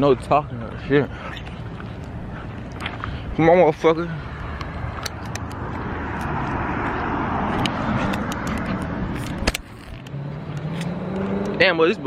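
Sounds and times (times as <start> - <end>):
vehicle passing by: 1.0 - 12.0.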